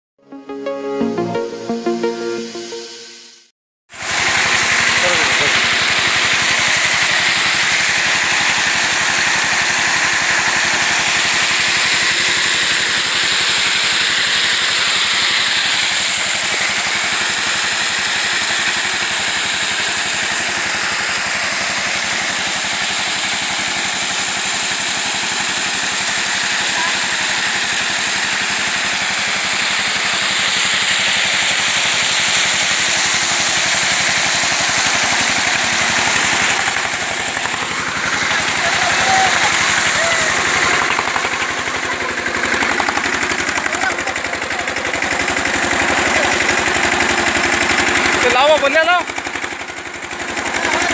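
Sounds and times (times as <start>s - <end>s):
tractor engine running: 3.9s - 50.9s
water jet hissing and splashing: 4.0s - 49.7s.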